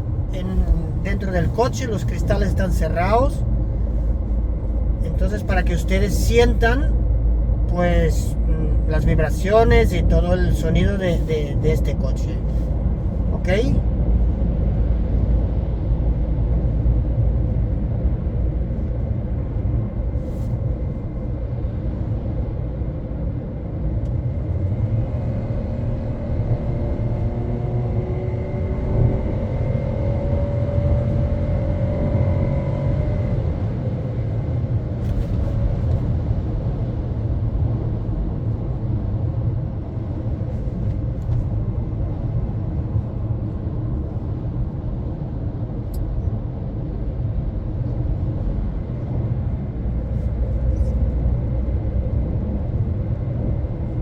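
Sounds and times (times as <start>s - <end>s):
car engine and road noise rumble: 0.0s - 54.0s.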